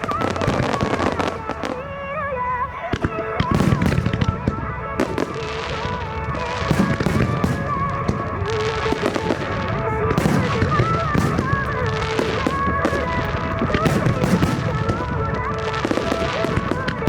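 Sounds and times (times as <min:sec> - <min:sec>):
fireworks bursting and crackling: 0:00.0 - 0:17.0
song over loudspeakers: 0:00.0 - 0:17.0.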